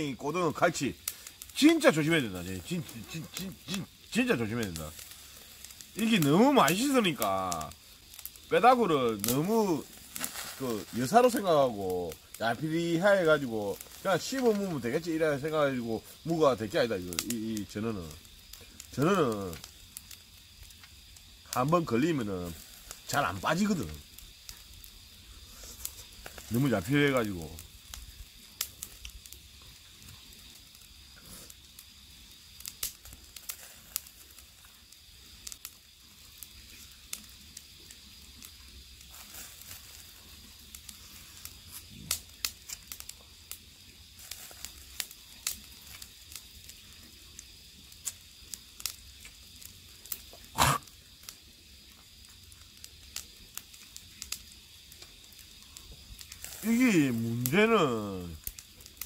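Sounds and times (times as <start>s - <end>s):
crackles and pops: 0.0s - 59.0s
fish sizzling on a grill: 0.0s - 59.0s.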